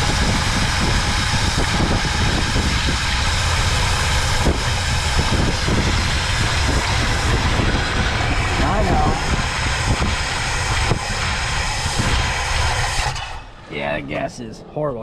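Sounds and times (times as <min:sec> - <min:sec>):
cooling fan air rush: 0:00.0 - 0:15.0
engine running: 0:00.0 - 0:15.0.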